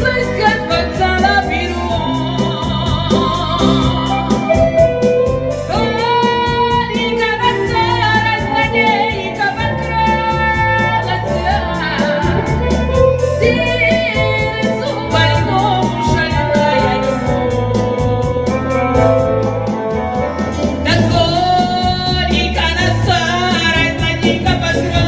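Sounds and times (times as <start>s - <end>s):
woman singing with vibrato: 0.0s - 18.6s, 20.0s - 25.0s
guitar-led accompaniment: 0.0s - 25.0s.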